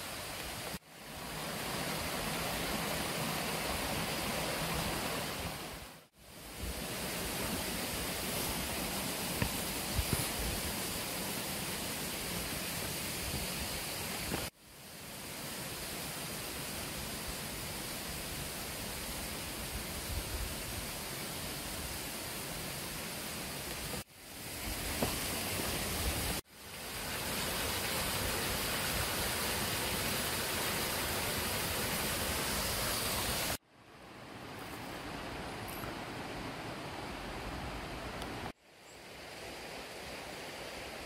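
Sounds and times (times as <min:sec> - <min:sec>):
stream rushing over boulders: 0:00.0 - 0:41.0.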